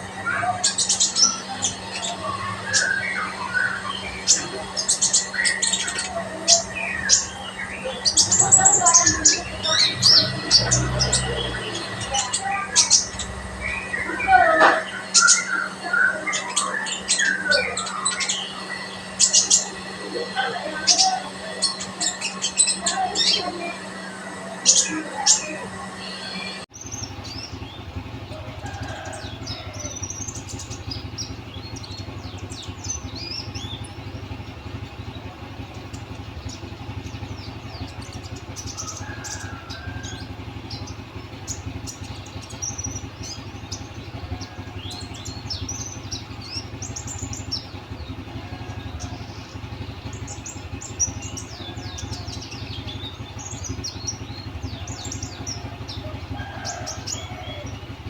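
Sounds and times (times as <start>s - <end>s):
small birds chirping: 0.0s - 58.0s
steady low hum: 0.0s - 58.0s.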